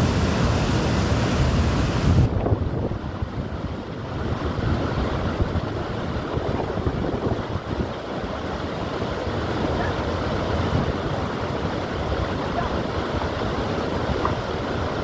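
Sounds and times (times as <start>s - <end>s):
water roaring over a weir: 0.0s - 15.0s
wind buffeting microphone: 0.0s - 15.0s.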